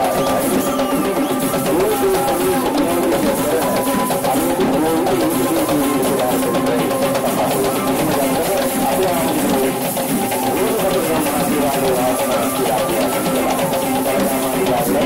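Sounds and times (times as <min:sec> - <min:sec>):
drums in dense rhythm: 0:00.0 - 0:15.0
wavering melody line: 0:00.0 - 0:15.0.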